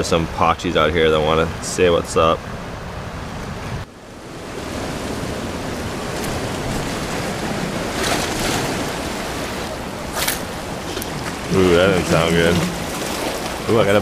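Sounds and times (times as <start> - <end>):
ocean surf washing on shore: 0.0 - 14.0.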